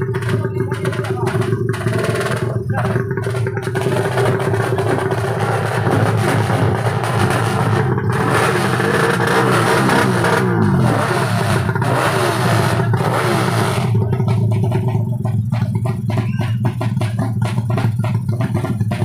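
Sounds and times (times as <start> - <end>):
motorcycle engines revving high: 0.0 - 19.0
steady pulsing beat: 0.0 - 19.0.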